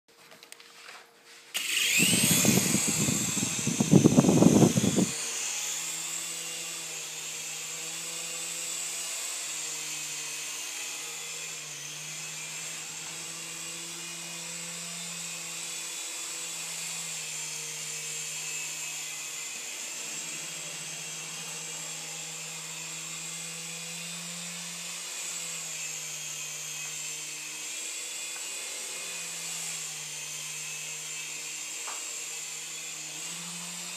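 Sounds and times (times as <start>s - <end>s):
rc helicopter motor whining: 1.6s - 33.9s.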